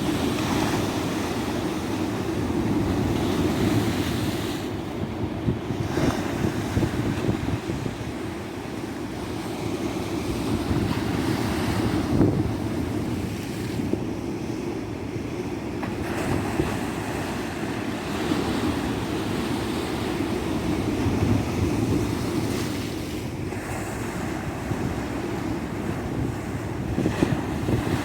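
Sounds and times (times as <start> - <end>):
wind buffeting microphone: 0.0 - 14.6, 15.9 - 28.0
waves breaking: 0.0 - 28.0.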